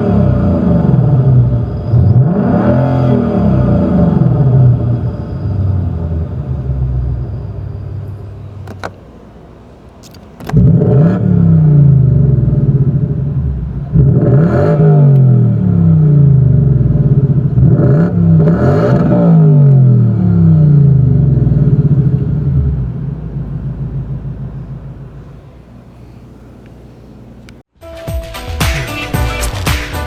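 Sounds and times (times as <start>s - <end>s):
car engine starting and revving: 0.0s - 26.0s.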